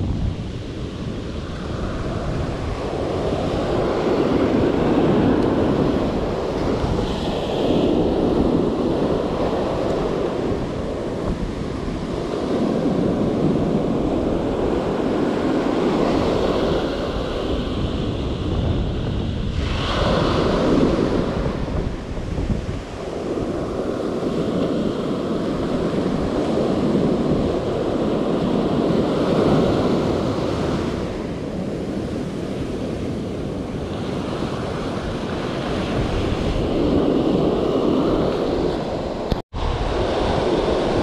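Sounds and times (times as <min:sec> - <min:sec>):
ocean surf breaking: 0:00.0 - 0:41.0
wind buffeting microphone: 0:00.0 - 0:41.0.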